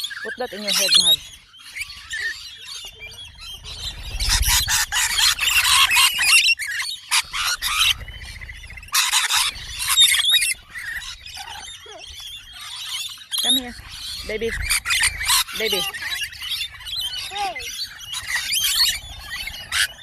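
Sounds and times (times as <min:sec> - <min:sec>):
birds squawking and chirping: 0:00.0 - 0:20.0.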